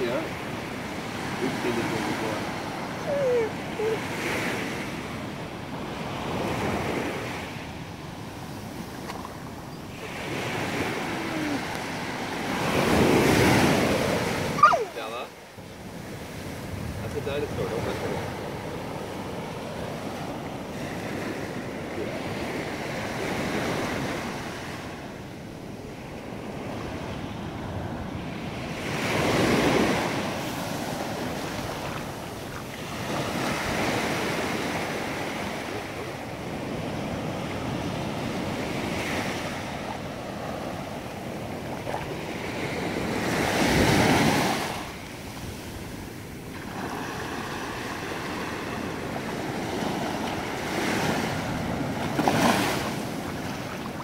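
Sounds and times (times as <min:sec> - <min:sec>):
surf washing up a beach: 0:00.0 - 0:54.0.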